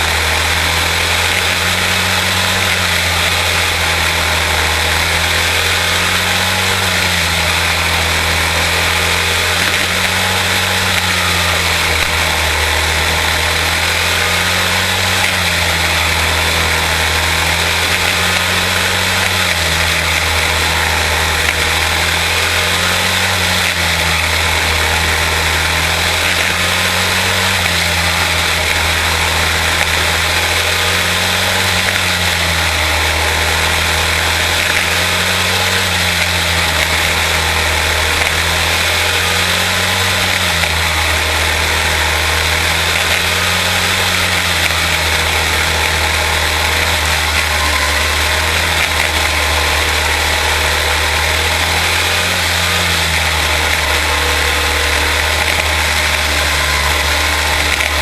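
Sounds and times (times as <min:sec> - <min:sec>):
race car engines: 0:00.0 - 0:58.0.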